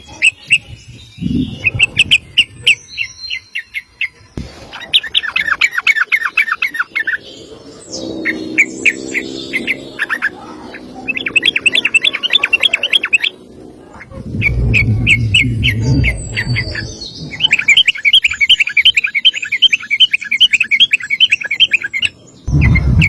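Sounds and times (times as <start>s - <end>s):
bulbul chirping song: 0.0s - 23.0s.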